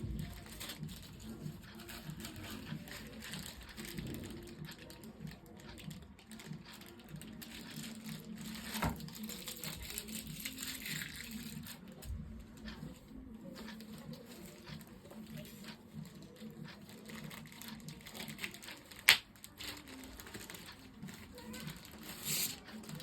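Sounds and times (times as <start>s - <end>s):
packaging rustling and tapping: 0.0s - 23.0s.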